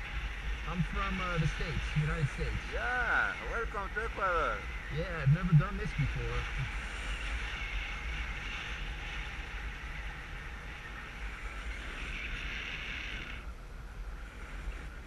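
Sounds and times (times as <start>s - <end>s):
low rumble: 0.0s - 13.5s.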